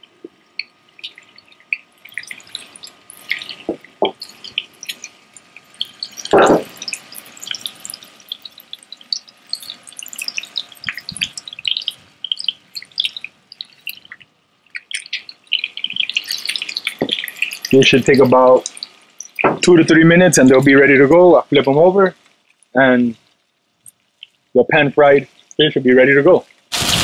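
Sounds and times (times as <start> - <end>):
fish searing in hot oil: 0.0 - 27.0.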